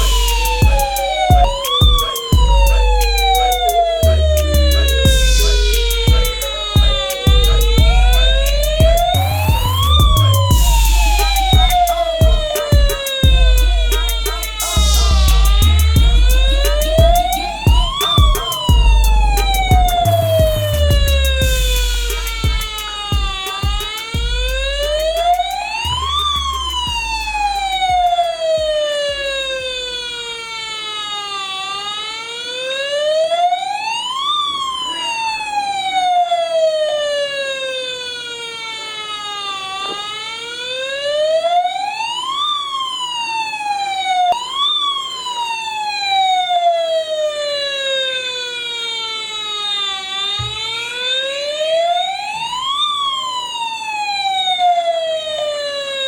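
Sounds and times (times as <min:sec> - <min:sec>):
toy electronic siren wailing: 0:00.0 - 0:56.0.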